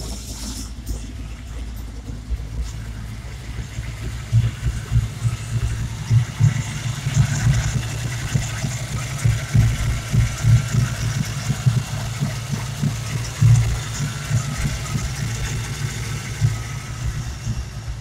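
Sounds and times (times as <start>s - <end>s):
car engine idling unevenly: 0.0s - 18.0s.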